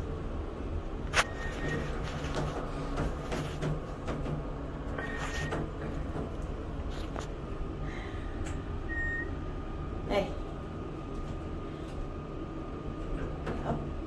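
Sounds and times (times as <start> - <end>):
elevator humming and rumbling: 0.0 - 14.0.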